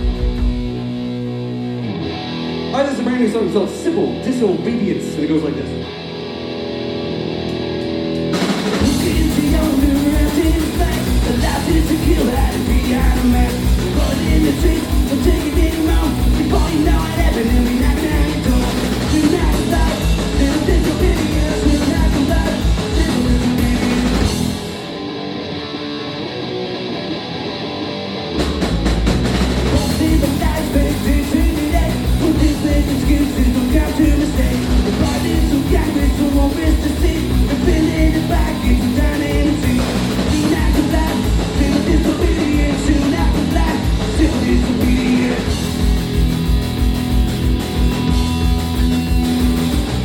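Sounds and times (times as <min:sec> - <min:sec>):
electric guitar chords: 0:00.0 - 0:50.0
punk rock band playing: 0:00.0 - 0:50.0.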